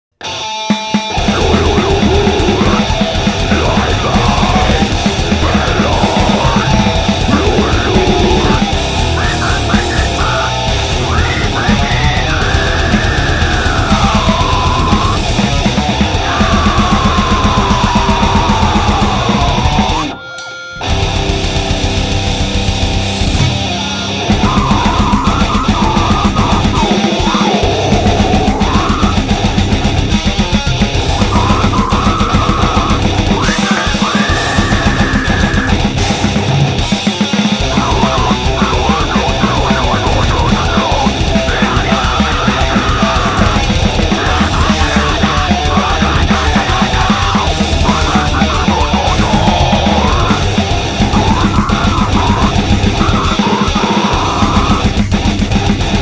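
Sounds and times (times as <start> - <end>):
distorted electric guitars: 0.1 - 56.0
harsh yelled vocals: 0.2 - 20.2, 23.0 - 56.0
heavy metal music: 0.2 - 56.0
high bending guitar line: 0.2 - 56.0
fast drum beat: 0.7 - 20.1, 20.8 - 56.0.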